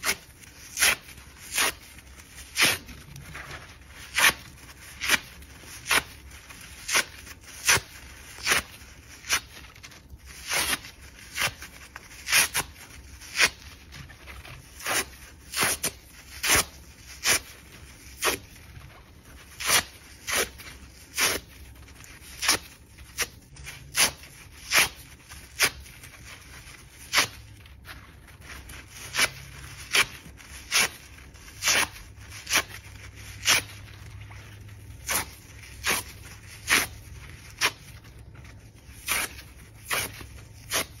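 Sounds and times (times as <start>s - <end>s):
foam sponge tearing: 0.0s - 41.0s.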